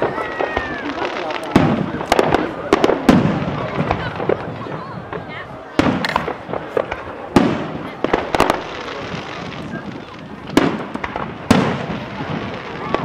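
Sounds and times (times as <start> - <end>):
crowd voices: 0.0 - 13.0
fireworks exploding: 0.0 - 13.0.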